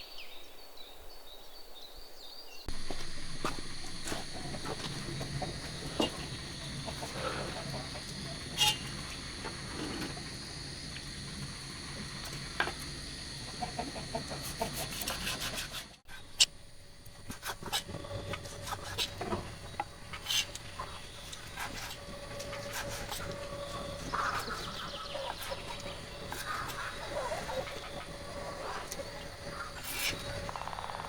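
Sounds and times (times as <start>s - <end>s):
chickens clucking: 2.8s - 15.8s, 17.3s - 30.5s.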